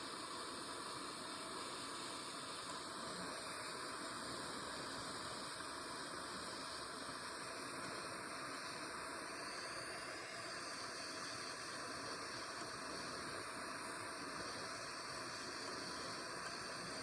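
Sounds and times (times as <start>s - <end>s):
gas torch flame hissing: 0.0s - 17.0s.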